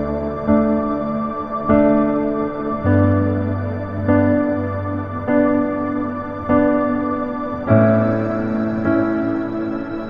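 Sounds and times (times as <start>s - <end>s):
calm new-age music: 0.0s - 10.0s.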